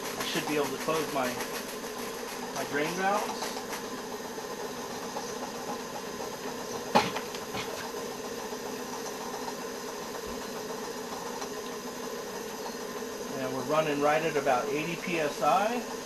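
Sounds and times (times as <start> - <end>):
steam engine running: 0.0 - 16.0.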